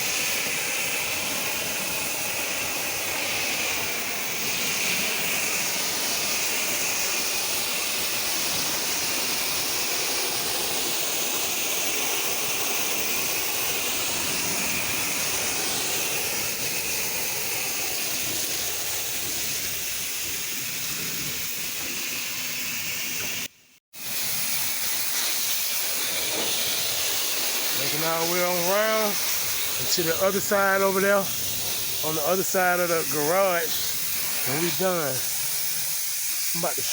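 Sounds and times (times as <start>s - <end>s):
pressure washer spraying water: 0.0s - 36.9s.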